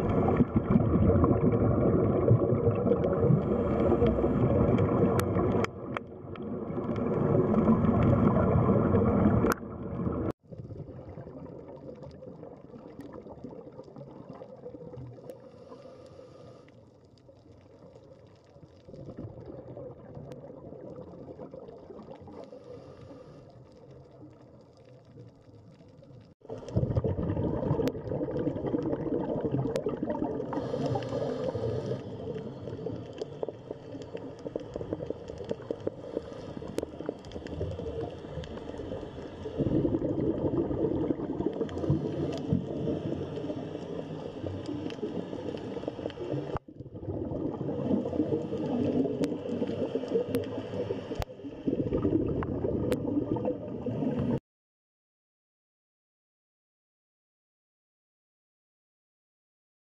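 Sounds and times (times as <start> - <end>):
crackling underwater noise: 0.0 - 54.4.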